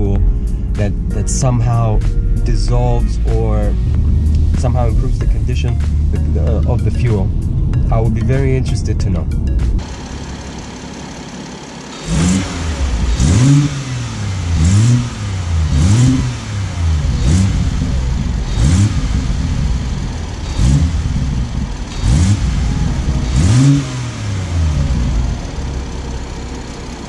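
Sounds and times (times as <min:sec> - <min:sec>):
car engine idling: 0:00.0 - 0:27.0
car engine revving: 0:00.0 - 0:27.0.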